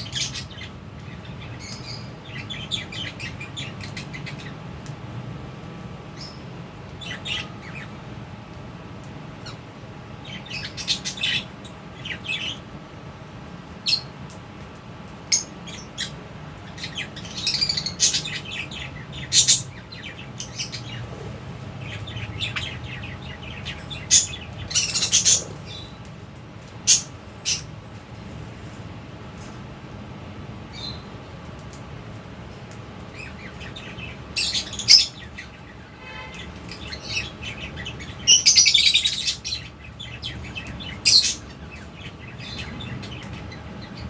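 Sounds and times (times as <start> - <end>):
lovebirds chirping: 0.0 - 5.0, 6.0 - 8.2, 9.3 - 12.8, 13.8 - 29.6, 30.5 - 44.0
steady low hum: 0.0 - 44.0.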